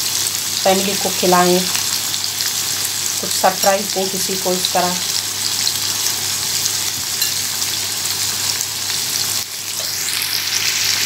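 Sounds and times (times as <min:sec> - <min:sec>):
shrimp sizzling in frying pan: 0:00.0 - 0:11.0.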